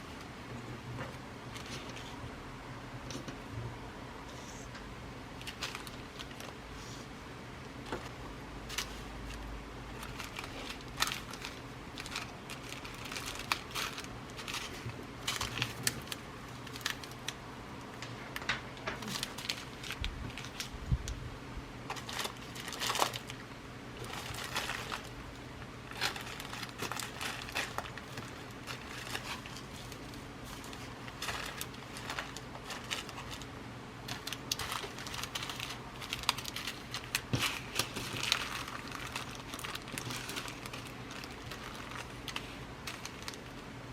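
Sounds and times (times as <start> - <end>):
rustling of bead packets: 5.4 - 7.0, 7.8 - 21.2, 21.8 - 43.9.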